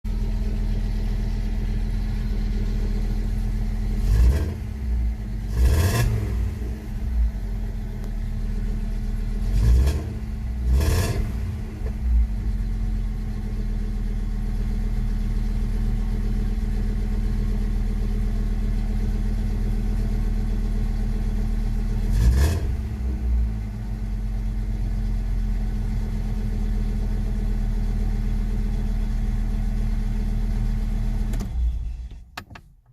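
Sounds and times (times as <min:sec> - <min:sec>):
car engine idling: 0:00.1 - 0:32.0.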